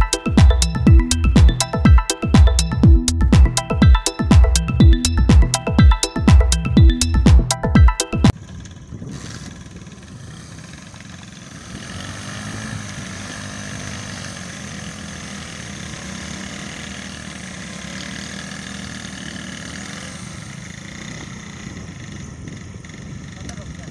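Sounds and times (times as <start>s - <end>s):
motorcycle engines running: 0.0s - 23.9s.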